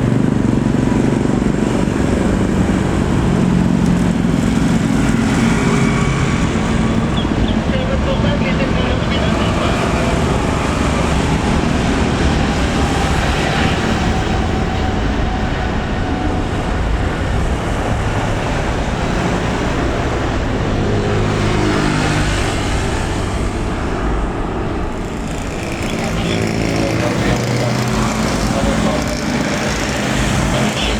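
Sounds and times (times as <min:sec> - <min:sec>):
jet airliner engines roaring: 0:00.0 - 0:30.9.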